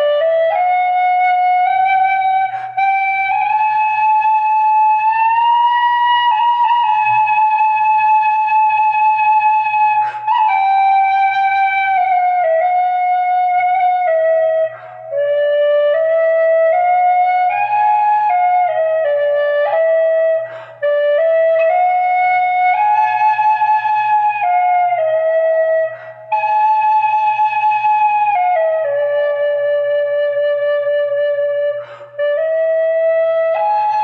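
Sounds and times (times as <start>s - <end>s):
solo flute melody: 0.0s - 34.0s.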